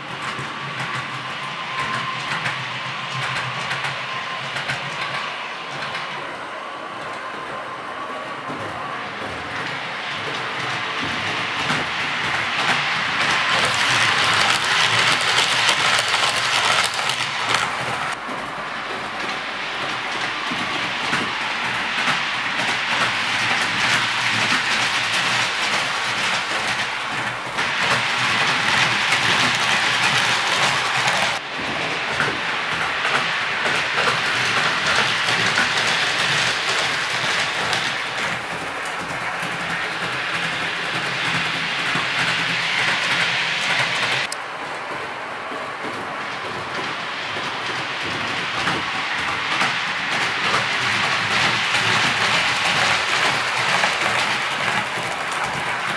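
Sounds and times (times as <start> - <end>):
model trains rolling on track: 0.0 - 55.9.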